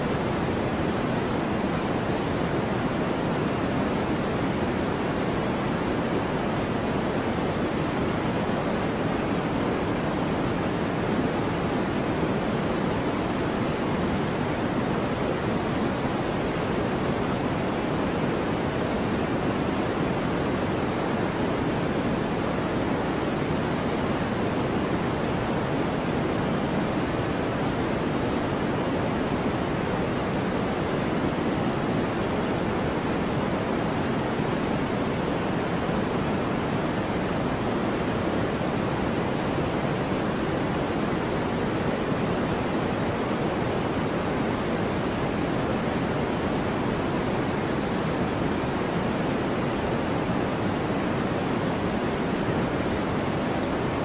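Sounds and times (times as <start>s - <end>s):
deep white noise hiss: 0.0s - 54.0s.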